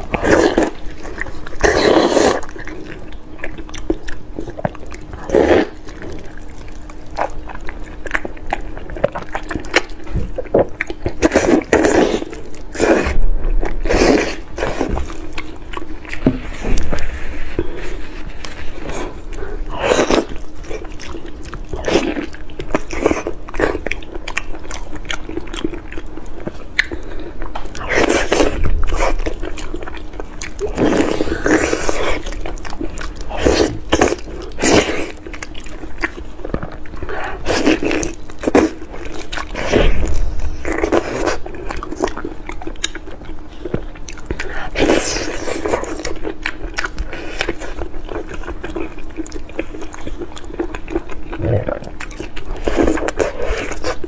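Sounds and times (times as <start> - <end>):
faint steady hum: 0.0 - 54.0
person biting and chewing: 0.0 - 54.0.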